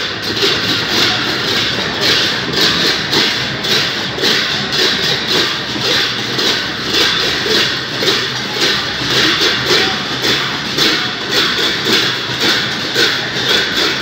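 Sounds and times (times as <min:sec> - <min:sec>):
drums and cymbals beating: 0:00.0 - 0:14.0
large crowd noise: 0:00.0 - 0:14.0.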